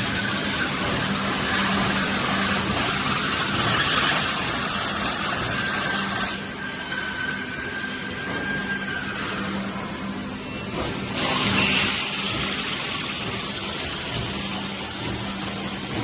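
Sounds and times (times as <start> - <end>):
loud machine hiss: 0.0 - 16.0.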